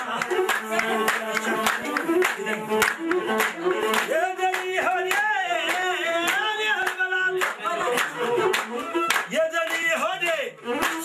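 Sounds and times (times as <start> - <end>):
group clapping on a beat: 0.0 - 11.0.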